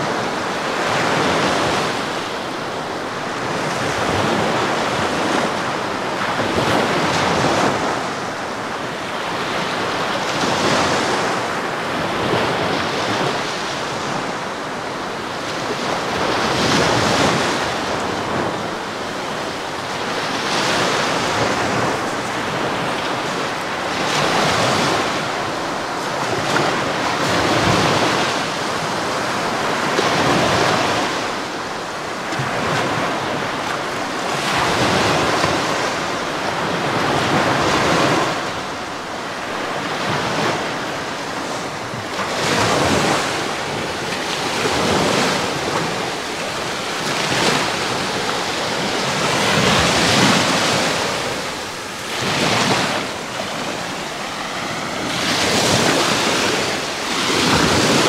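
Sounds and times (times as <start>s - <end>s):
small waves breaking on shore: 0.0s - 58.0s
wind buffeting microphone: 0.0s - 58.0s.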